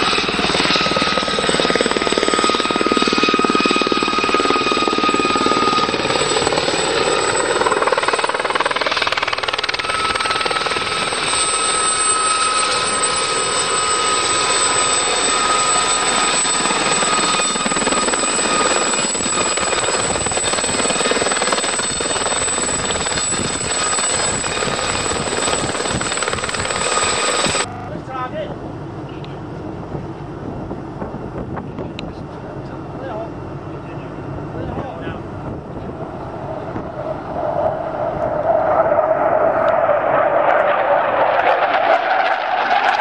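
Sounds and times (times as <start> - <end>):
helicopter rushing noise: 0.0 - 43.0
high helicopter whine: 0.0 - 43.0.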